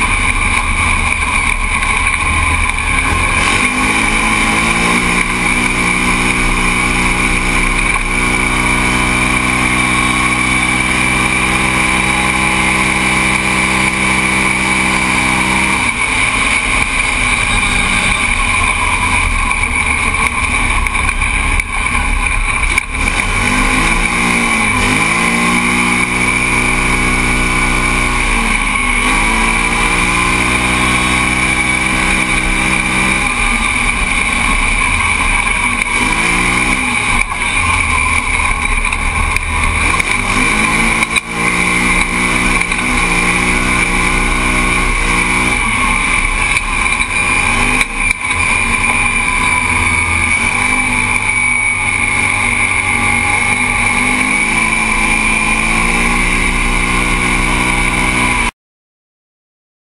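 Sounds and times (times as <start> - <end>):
race vehicle engine running hard: 0.0 - 58.5.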